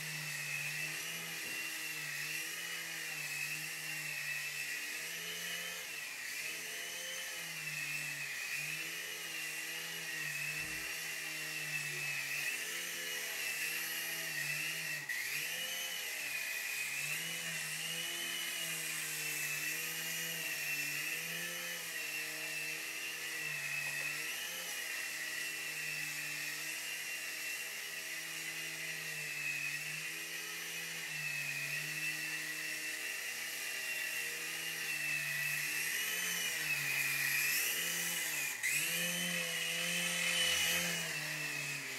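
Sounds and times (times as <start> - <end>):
toy helicopter motor whine: 0.0 - 41.9.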